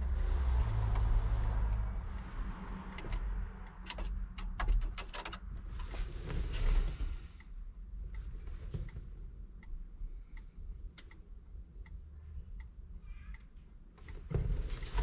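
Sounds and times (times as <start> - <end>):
turn signal ticking: 0.0 - 4.7, 7.4 - 15.0.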